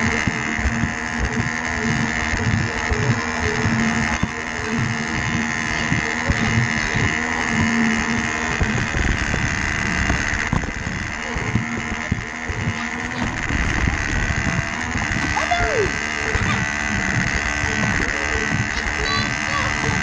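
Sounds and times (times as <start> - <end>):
toy train motor whirring: 0.0 - 20.0
wheels rattling over plastic track: 0.0 - 20.0.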